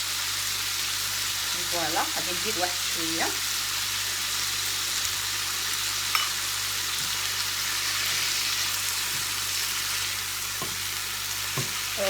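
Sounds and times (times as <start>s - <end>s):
shrimp sizzling in a pan: 0.0s - 12.0s.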